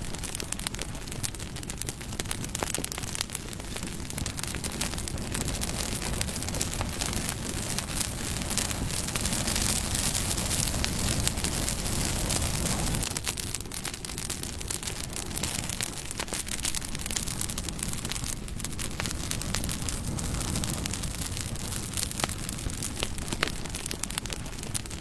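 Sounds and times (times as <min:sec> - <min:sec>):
rush of flames: 0:00.0 - 0:25.0
wood crackling and popping: 0:00.0 - 0:25.0.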